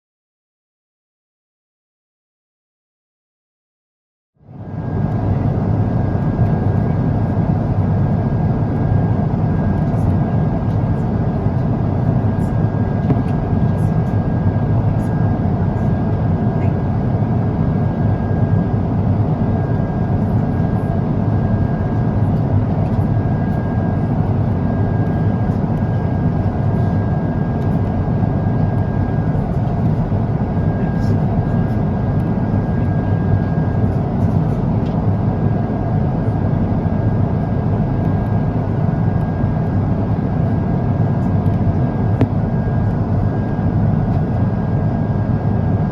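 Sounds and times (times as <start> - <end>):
airplane cabin engine and airflow rush: 4.4 - 45.9.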